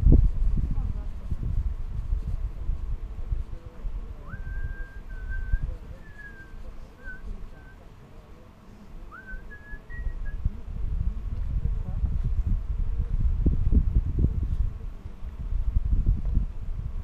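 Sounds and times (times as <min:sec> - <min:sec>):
wind rumble on microphone: 0:00.0 - 0:07.8, 0:08.7 - 0:17.0.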